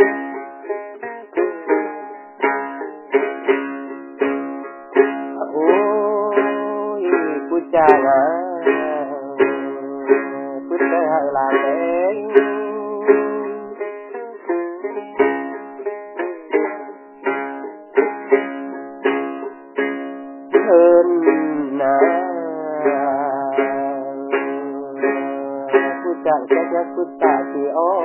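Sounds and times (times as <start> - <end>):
plucked string melody: 0.0 - 28.0.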